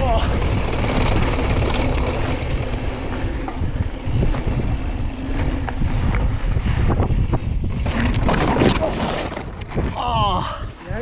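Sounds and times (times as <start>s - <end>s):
bike ticks and rattles: 0.0s - 11.0s
wind buffeting microphone: 0.0s - 11.0s.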